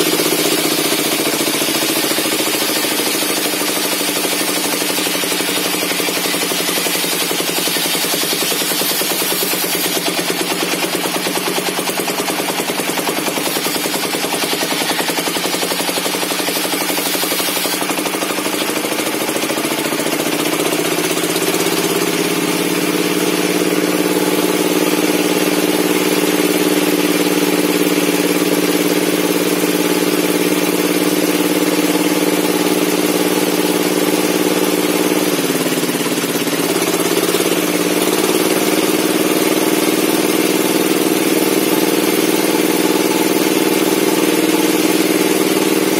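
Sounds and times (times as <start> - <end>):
circular saw running: 0.0 - 45.9.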